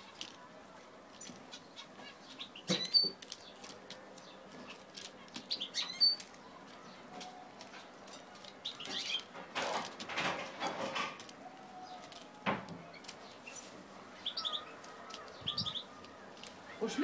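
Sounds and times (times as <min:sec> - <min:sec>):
finches fluttering wings: 0:01.1 - 0:17.0.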